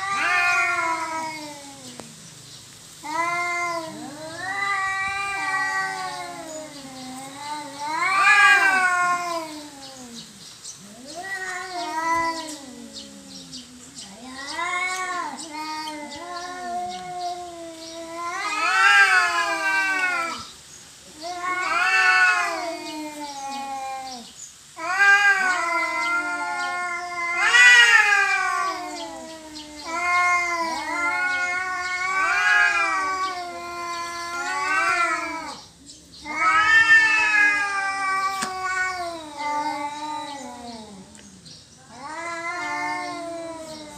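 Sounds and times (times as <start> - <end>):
cats yowling: 0.0 - 2.2, 3.0 - 43.9.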